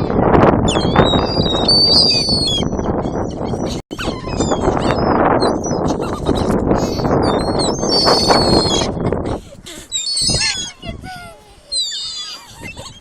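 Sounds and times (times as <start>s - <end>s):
gulls calling: 0.7s - 13.0s.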